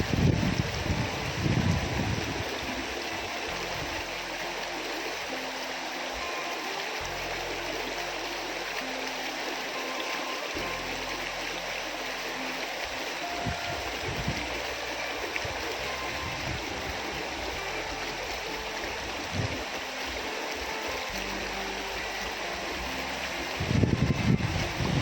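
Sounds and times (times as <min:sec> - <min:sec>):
river rushing: 0:00.0 - 0:25.0.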